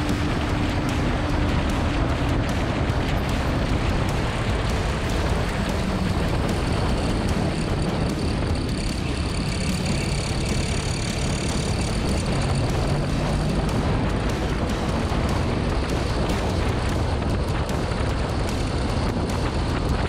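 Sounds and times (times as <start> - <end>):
motorcycle engine at speed: 0.0 - 20.0
wind rumble on microphone: 0.0 - 20.0.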